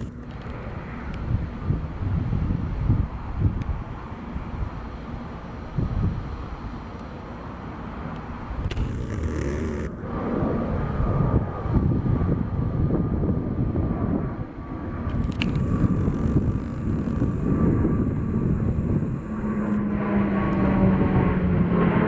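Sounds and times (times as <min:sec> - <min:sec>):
wind on microphone: 0:00.0 - 0:04.9, 0:05.7 - 0:06.7, 0:08.5 - 0:22.0
aircraft engines rumbling: 0:00.0 - 0:22.0
steady engine whine: 0:00.0 - 0:22.0.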